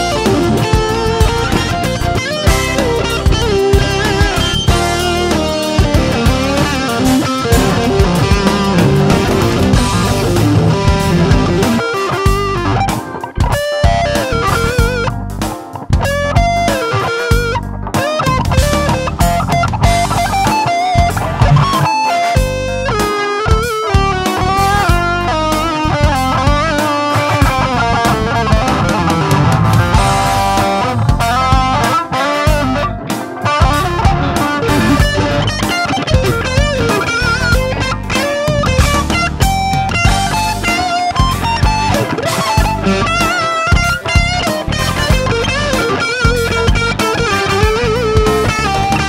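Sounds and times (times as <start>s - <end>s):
overdriven electric guitar solo: 0.0s - 49.0s.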